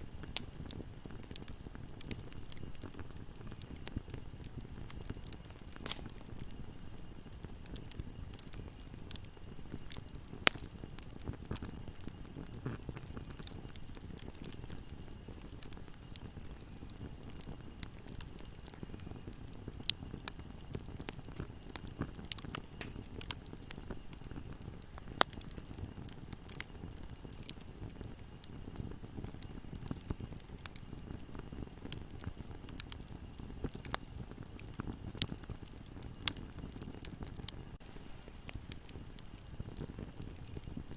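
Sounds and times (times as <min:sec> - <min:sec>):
burning wood crackling and popping: 0:00.0 - 0:40.9
campfire rumble: 0:00.0 - 0:40.9.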